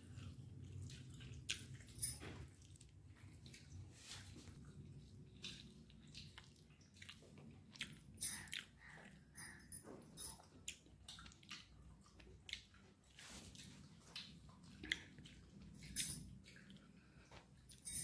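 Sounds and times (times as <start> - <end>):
faint wet chewing: 0.0 - 17.8.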